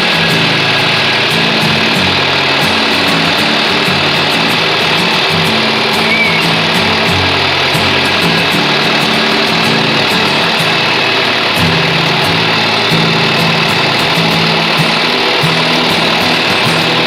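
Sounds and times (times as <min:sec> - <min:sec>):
engine running: 0:00.0 - 0:17.0
music with beat and bass line: 0:00.0 - 0:17.0.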